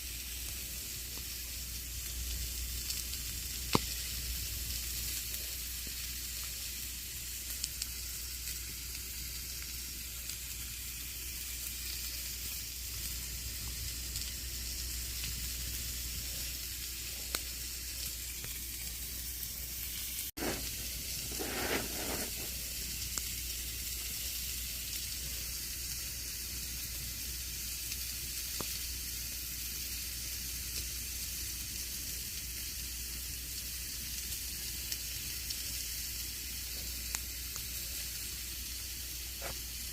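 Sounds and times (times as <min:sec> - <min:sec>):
campfire crackling: 0:00.2 - 0:39.9.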